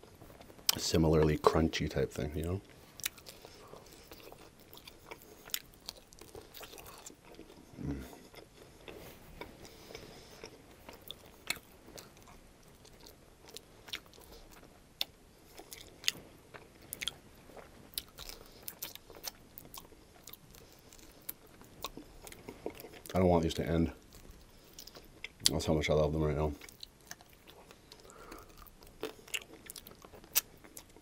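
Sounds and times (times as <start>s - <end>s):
biting and chewing: 2.7s - 23.2s, 26.5s - 31.0s.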